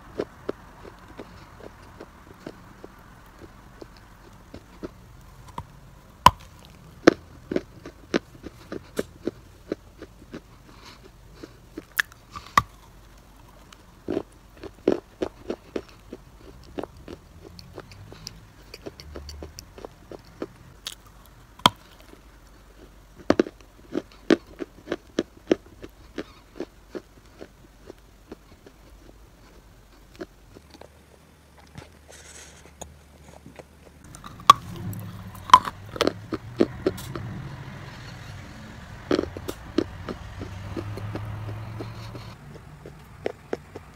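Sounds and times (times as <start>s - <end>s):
person chewing crunchy clay: 0.0s - 43.9s.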